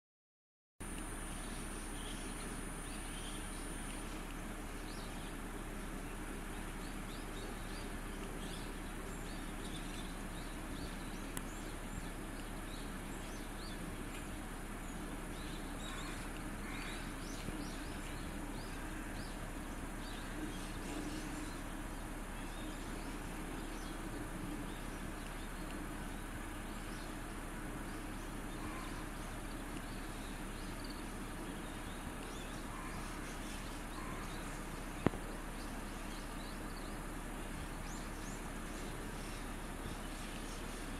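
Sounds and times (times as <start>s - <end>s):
outdoor background hiss: 0.8s - 40.9s
small birds chirping: 0.8s - 40.9s.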